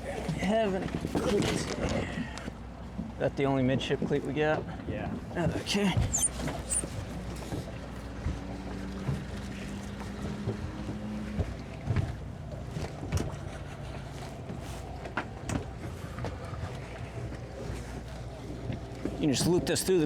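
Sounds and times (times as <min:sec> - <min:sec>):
outboard motors idling: 0:00.0 - 0:20.0.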